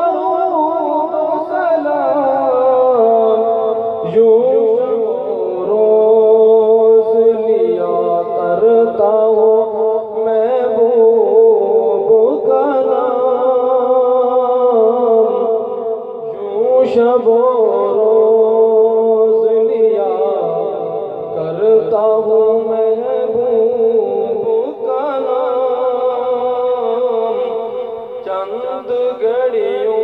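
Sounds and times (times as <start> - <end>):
solo voice singing devotional poem: 0.0 - 30.0.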